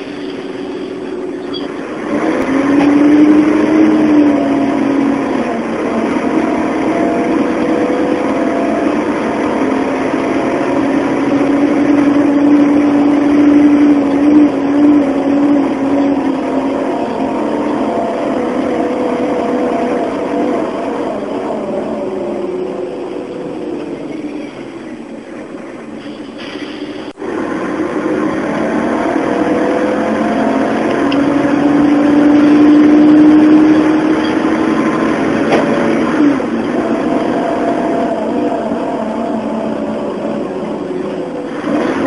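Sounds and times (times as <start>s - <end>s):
bus diesel engine under load: 0.0s - 42.0s.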